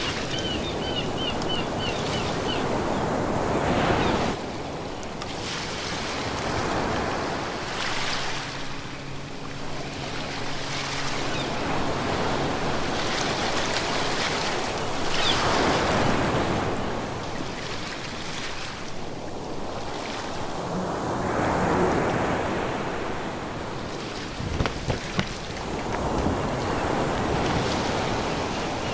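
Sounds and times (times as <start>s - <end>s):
ocean waves breaking: 0.0s - 28.9s.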